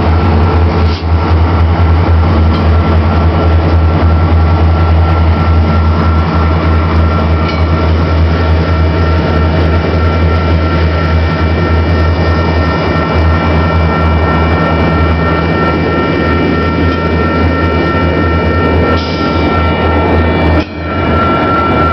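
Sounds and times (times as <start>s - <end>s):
freight train low rumble: 0.0s - 21.9s
train wheels on rails: 0.0s - 21.9s.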